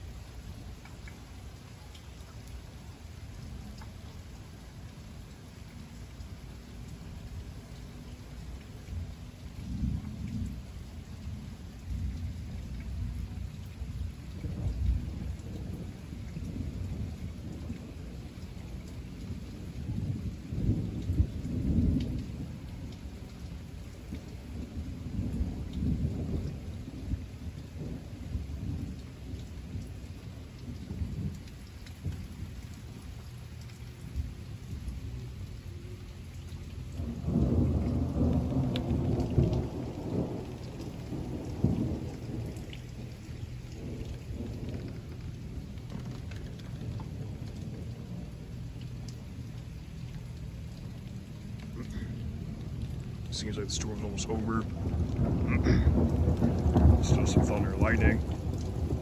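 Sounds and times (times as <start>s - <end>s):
steady rain: 0.0s - 59.0s
thunder rumbling: 8.4s - 59.0s.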